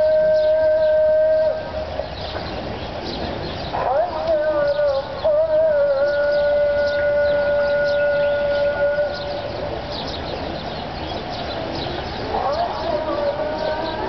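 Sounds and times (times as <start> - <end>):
call to prayer: 0.0 - 14.0
small birds chirping: 1.7 - 14.0.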